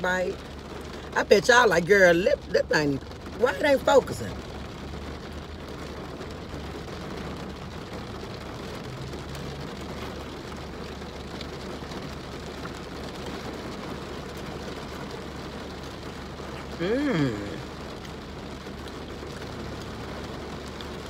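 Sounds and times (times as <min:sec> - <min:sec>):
rain on a car roof: 0:00.0 - 0:21.0.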